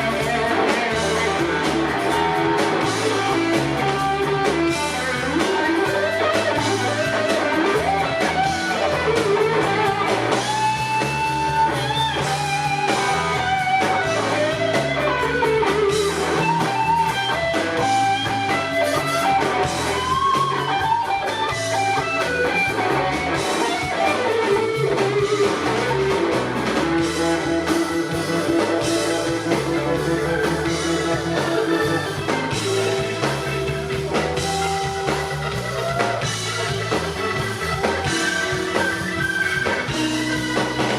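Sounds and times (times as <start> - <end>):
bass guitar: 0.0 - 40.9
drum kit: 0.0 - 40.9
lead electric guitar bending notes: 0.0 - 40.9.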